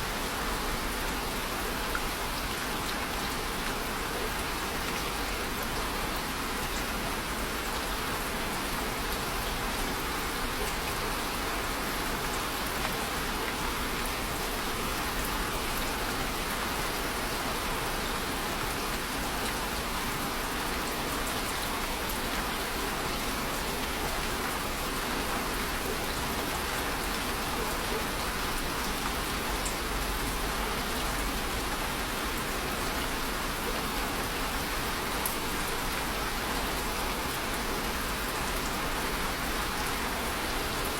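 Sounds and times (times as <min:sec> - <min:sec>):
rain on a hard surface: 0:00.0 - 0:40.9.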